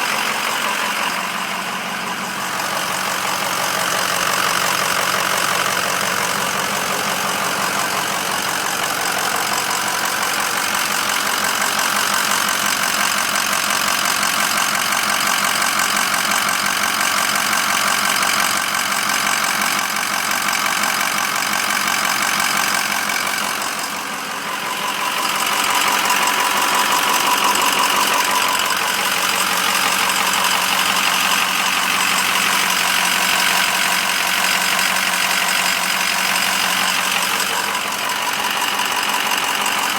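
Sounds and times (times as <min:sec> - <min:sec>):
diesel engine knocking clatter: 0:00.0 - 0:39.9.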